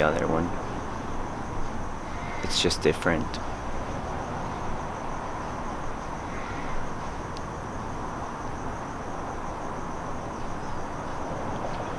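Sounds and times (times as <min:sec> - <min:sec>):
crickets chirping: 0:00.0 - 0:11.9
low rushing background: 0:00.0 - 0:11.9.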